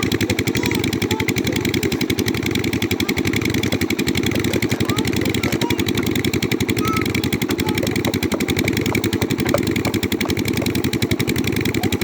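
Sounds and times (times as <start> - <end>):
engine running with fast pulse: 0.0 - 12.0.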